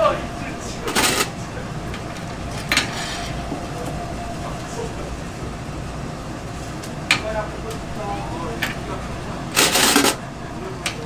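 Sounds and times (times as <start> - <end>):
mechanical rumble and hum: 0.0 - 11.0.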